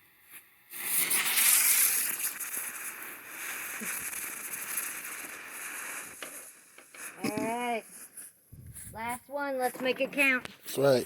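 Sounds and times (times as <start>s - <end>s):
ground firework hissing and crackling: 0.0s - 11.0s.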